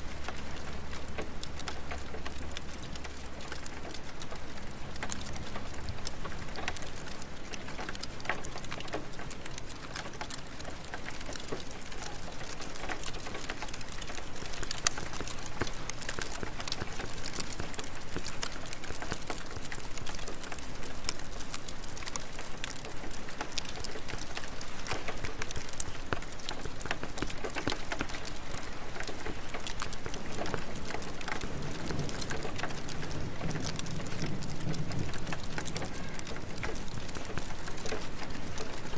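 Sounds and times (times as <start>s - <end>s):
steady rain: 0.0s - 38.9s
fireplace crackling: 0.1s - 34.3s.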